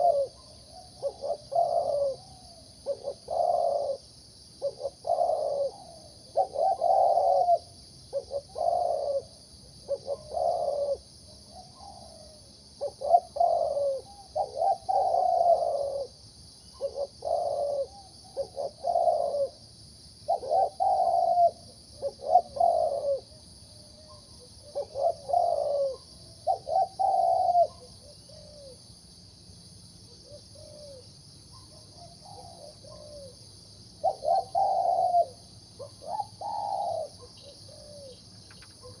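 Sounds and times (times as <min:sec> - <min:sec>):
dove cooing: 0:00.0 - 0:16.2, 0:16.8 - 0:19.6, 0:20.2 - 0:28.8, 0:30.2 - 0:31.0, 0:31.6 - 0:33.4, 0:34.0 - 0:39.0.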